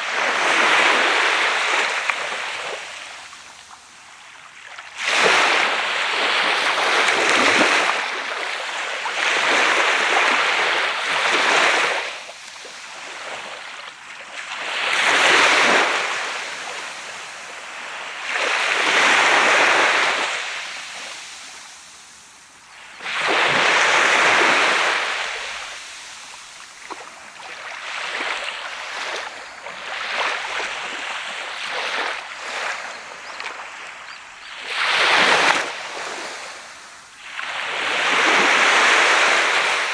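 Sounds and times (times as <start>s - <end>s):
sea waves breaking on sand beach: 0.0s - 39.9s.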